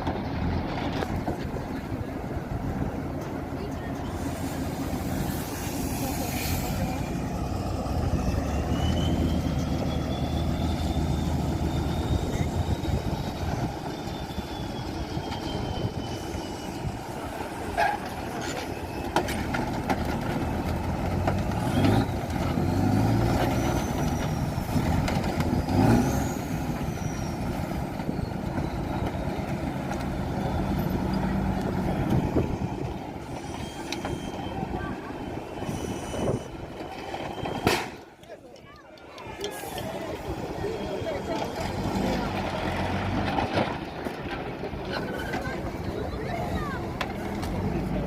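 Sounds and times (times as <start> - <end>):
truck diesel engine under load: 0.0 - 48.0.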